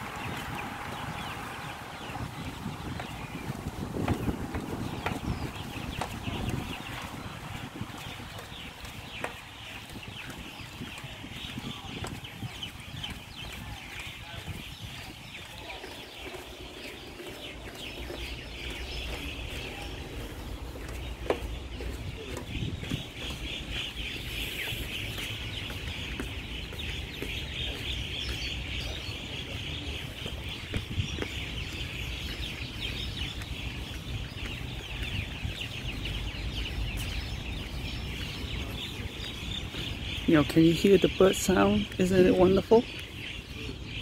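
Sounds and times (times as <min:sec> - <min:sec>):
chorus of birds chirping: 0:00.0 - 0:44.0.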